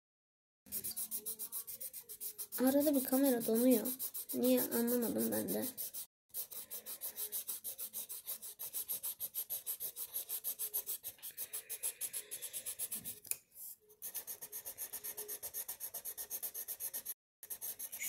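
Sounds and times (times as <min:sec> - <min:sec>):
colored pencil scratching on paper: 0:00.7 - 0:18.0.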